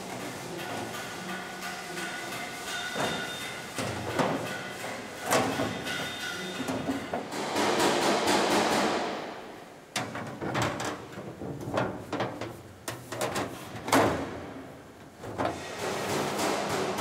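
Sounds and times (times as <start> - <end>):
metal panels knocking and clanking: 0.2 - 17.0.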